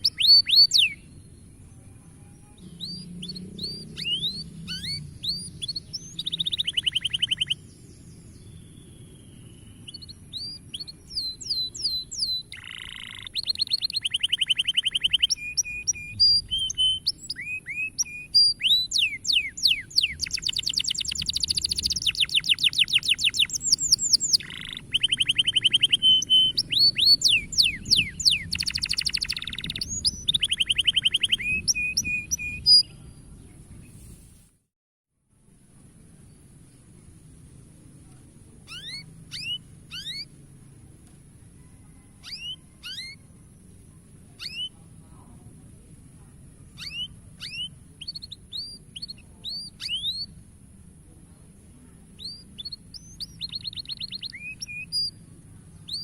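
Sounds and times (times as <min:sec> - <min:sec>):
canary singing trills: 0:00.0 - 0:33.2, 0:38.6 - 0:40.4, 0:41.6 - 0:45.0, 0:46.6 - 0:50.5, 0:52.1 - 0:56.0
faint high-pitched whine: 0:00.0 - 0:34.5, 0:35.3 - 0:56.0.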